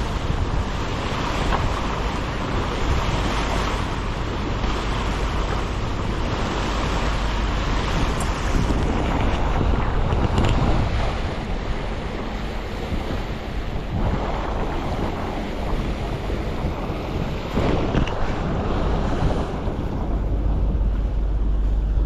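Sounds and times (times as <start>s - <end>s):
low engine hum: 0.0s - 22.0s
water rushing past hull: 0.0s - 22.0s
wind buffeting microphone: 0.0s - 22.0s.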